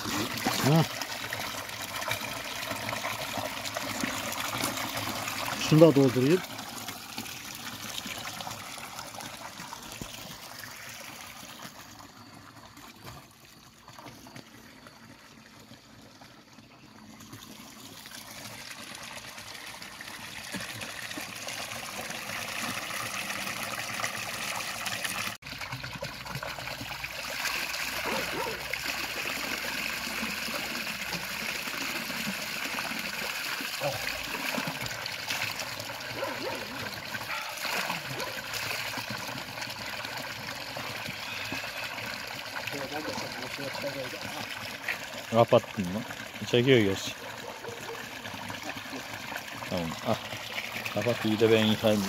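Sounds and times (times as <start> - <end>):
water pouring into stone basin: 0.0 - 52.0.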